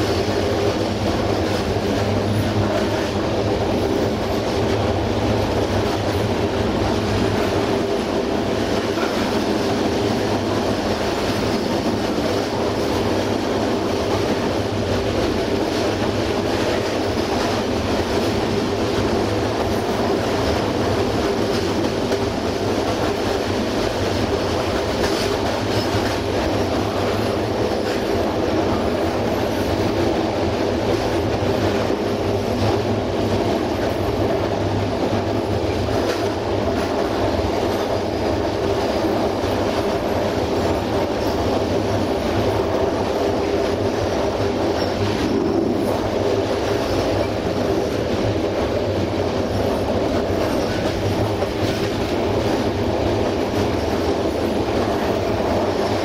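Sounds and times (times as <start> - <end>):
clickety-clack of rail joints: 0.0 - 56.0
train wheels rumbling on rail: 0.0 - 56.0.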